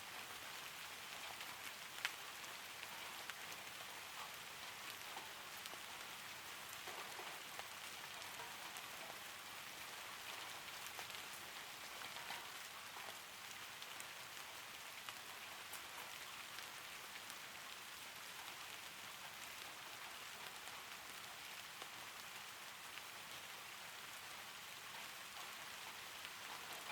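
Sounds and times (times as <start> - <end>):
gentle rain falling: 0.0 - 26.9.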